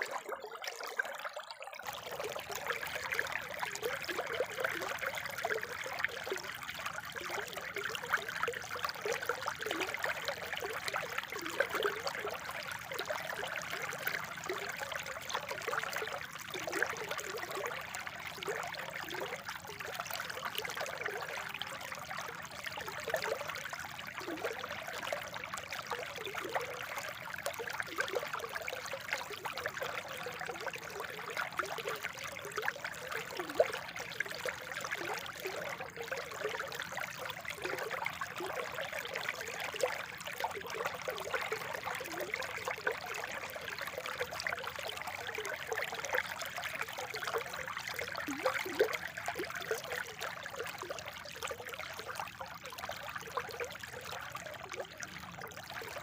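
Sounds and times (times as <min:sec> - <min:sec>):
spring water trickling and gurgling: 0:00.0 - 0:56.0.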